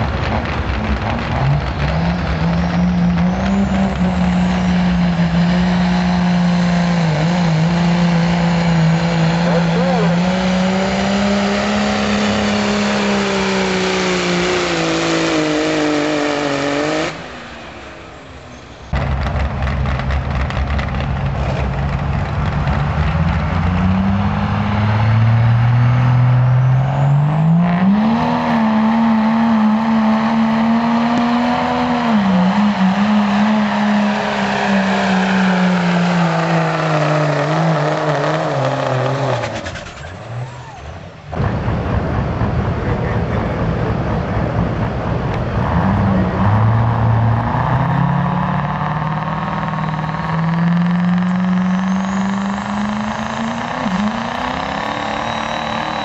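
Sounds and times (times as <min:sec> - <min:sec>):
diesel engine revving at full throttle: 0:00.0 - 0:56.0.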